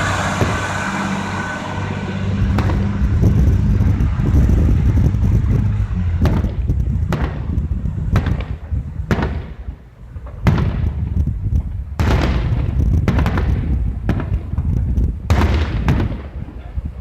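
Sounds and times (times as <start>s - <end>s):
fireworks bangs with echoing rumble: 0.0s - 16.9s
steady low rumble: 0.0s - 17.0s.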